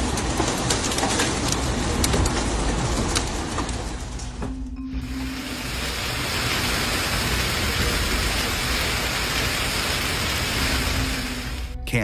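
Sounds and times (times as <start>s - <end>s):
heavy rain pelting down: 0.0s - 12.0s.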